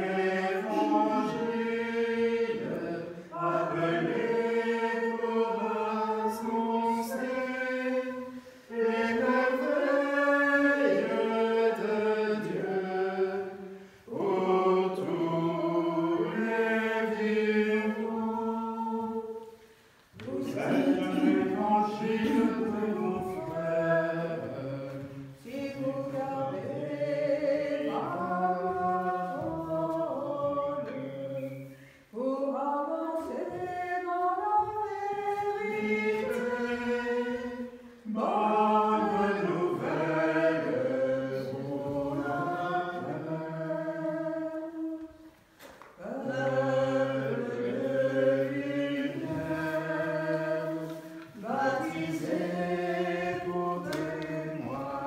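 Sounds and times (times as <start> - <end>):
group singing a hymn: 0.0 - 55.0.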